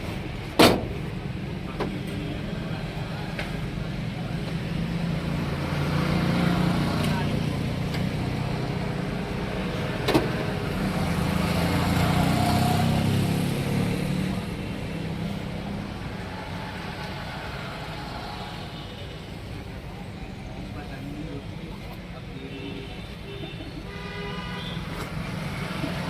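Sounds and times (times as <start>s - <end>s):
vehicle engine rumbling: 0.0s - 22.3s.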